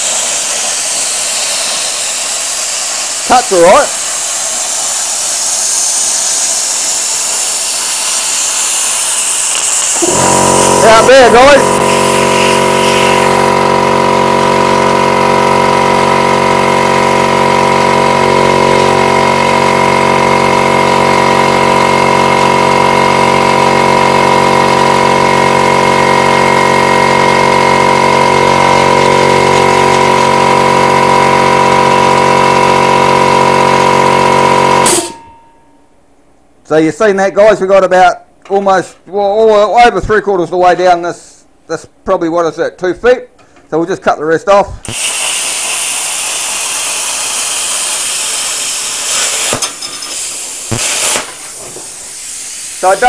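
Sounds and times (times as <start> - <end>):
air compressor running: 0.0 - 35.6, 44.7 - 53.0.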